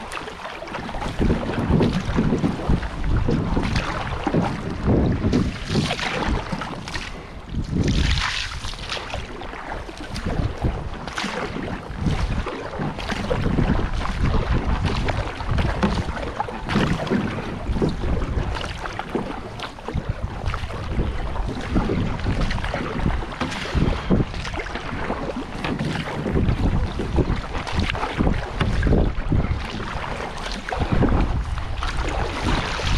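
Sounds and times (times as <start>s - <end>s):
river water splashing: 0.0s - 32.9s
wind buffeting microphone: 0.0s - 32.9s.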